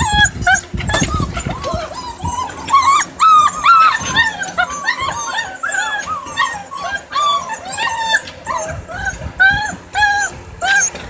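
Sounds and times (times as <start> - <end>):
puppies whining and yipping: 0.0 - 11.0.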